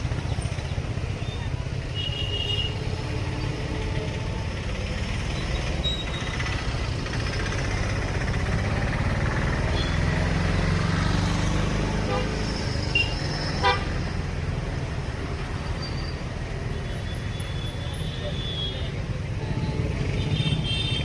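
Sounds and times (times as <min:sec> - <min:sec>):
road noise: 0:00.0 - 0:21.0
vehicle engine rumbling: 0:00.0 - 0:21.0.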